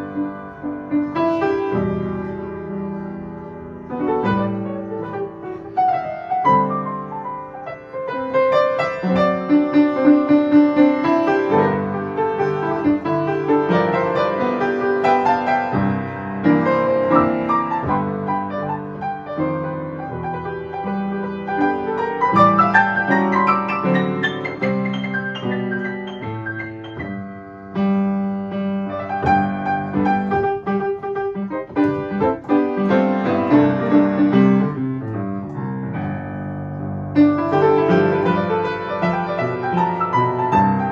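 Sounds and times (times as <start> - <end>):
solo piano music: 0.0 - 40.9.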